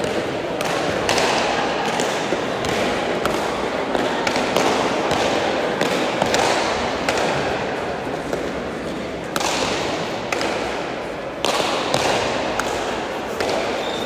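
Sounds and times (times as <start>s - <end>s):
hall background noise: 0.0s - 14.0s.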